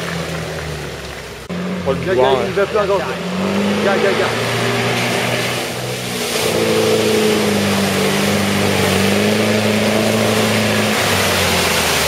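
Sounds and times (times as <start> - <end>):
truck engine driving through mud: 0.0 - 12.0.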